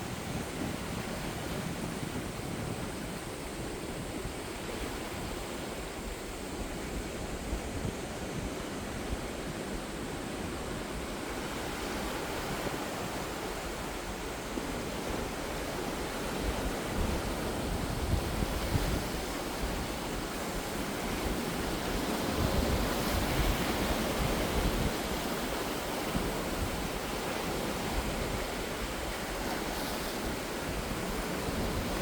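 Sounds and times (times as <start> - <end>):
ocean surf washing ashore: 0.0 - 32.0.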